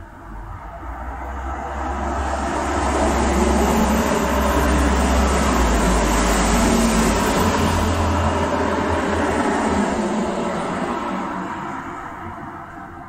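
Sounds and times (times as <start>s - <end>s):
deep traffic rumble: 0.0s - 13.0s
passing vehicle engine and tyres: 0.0s - 13.0s.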